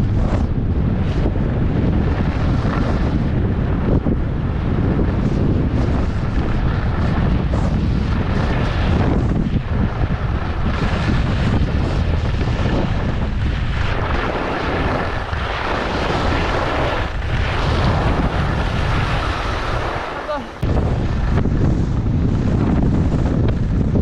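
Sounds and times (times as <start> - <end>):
skis carving on snow: 0.0 - 24.0
wind rushing over microphone: 0.0 - 24.0.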